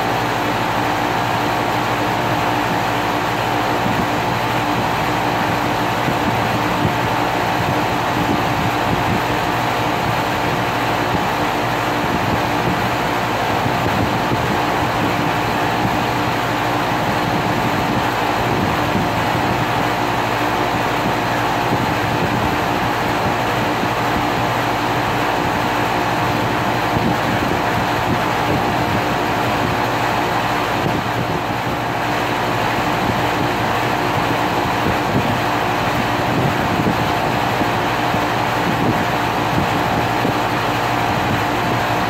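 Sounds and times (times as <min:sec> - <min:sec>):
air conditioner running: 0:00.0 - 0:42.0.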